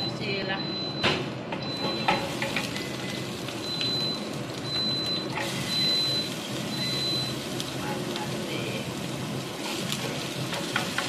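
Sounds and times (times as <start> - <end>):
food sizzling in a pan: 1.8 - 11.0.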